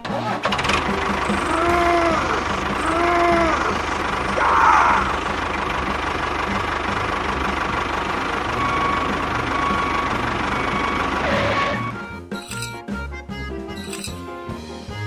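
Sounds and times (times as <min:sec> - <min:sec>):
small engine running: 0:00.0 - 0:12.7.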